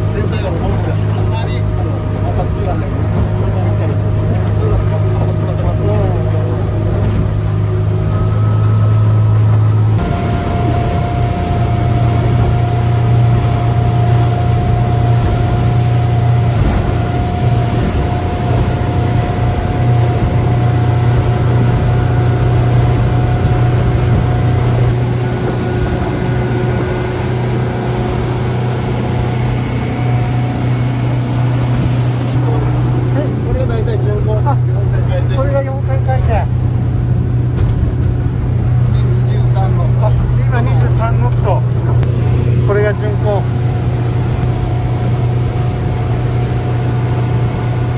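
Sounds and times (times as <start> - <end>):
outboard motor running: 0.0 - 47.9
water rushing along hull: 0.0 - 47.9.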